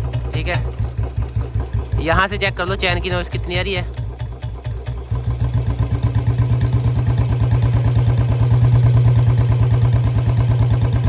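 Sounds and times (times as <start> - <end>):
dry drive chain noise: 0.0 - 11.0
motorcycle engine running: 0.0 - 11.0.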